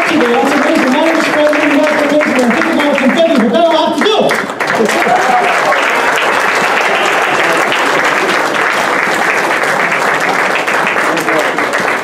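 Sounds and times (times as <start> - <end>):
cheers: 0.0 - 10.4
audience applauding: 0.0 - 12.0.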